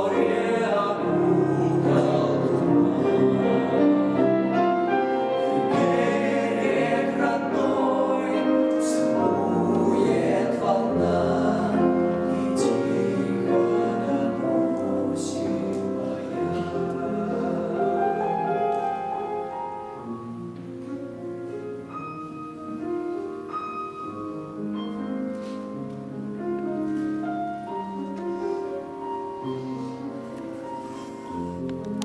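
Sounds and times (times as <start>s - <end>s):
piano accompaniment: 0.0s - 32.0s.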